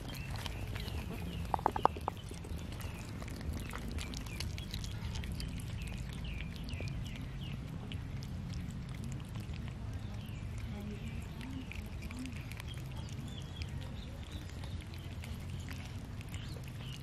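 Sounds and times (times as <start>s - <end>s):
birds chirping: 0.0s - 17.0s
cats chewing and lapping: 0.0s - 17.0s
small wet clicks: 0.0s - 17.0s.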